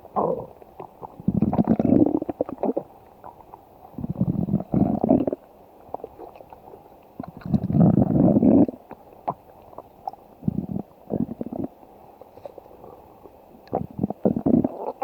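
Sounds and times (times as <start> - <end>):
stomach growling: 0.0 - 11.8, 12.8 - 15.0.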